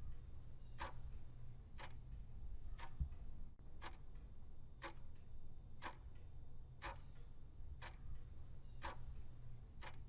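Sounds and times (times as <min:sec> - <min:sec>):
clock ticking: 0:00.0 - 0:03.2, 0:03.8 - 0:10.0
low steady hum: 0:00.0 - 0:10.0.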